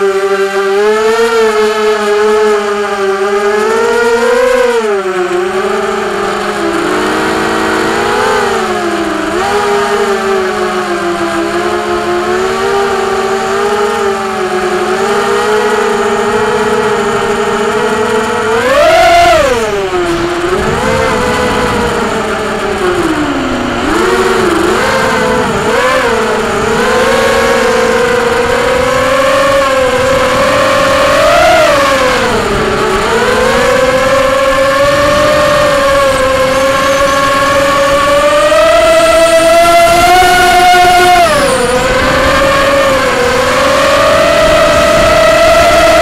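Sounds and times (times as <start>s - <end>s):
drone motors buzzing whine: 0.0s - 46.0s.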